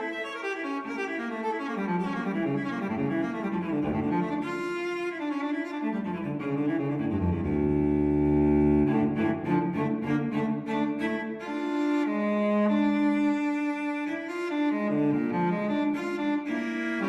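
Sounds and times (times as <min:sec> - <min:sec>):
solo cello melody: 0:00.0 - 0:17.0.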